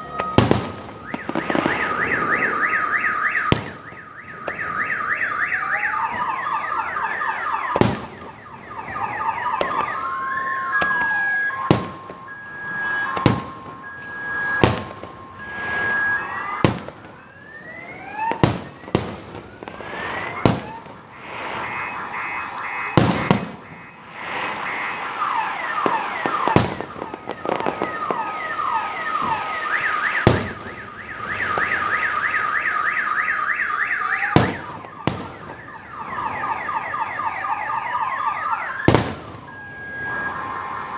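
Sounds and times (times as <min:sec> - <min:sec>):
car alarms warbling and beeping: 0:00.0 - 0:40.9
fireworks bangs: 0:00.0 - 0:40.9.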